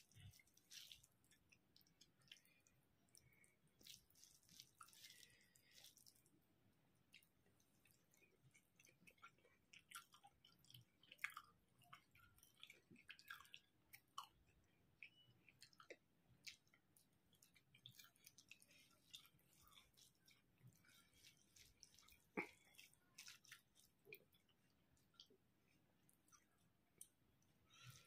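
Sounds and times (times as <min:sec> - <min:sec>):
chewing with wet clicks: 0:00.0 - 0:28.0.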